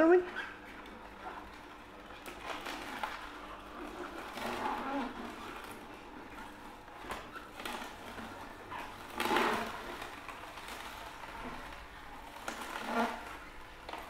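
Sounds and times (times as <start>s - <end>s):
juicer crushing celery: 0.2s - 14.0s.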